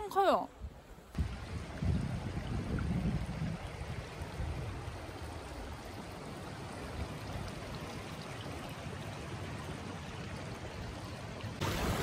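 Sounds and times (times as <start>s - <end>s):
rushing flowing water: 1.0s - 12.0s.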